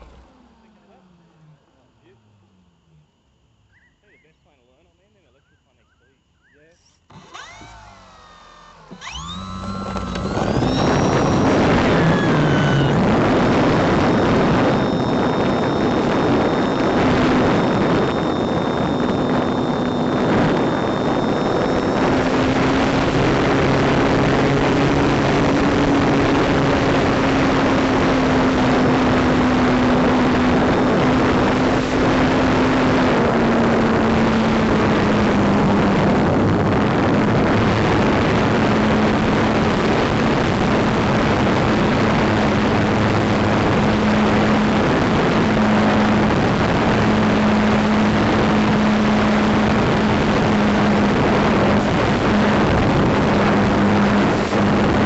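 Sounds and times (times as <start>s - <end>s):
model plane motor and propeller: 0.0s - 55.0s
thin high whine: 0.0s - 55.0s.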